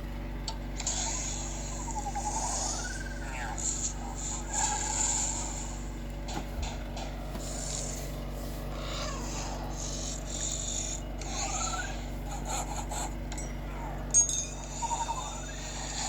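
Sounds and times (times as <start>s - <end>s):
low hum: 0.0s - 16.0s
rising whirs: 0.0s - 16.0s.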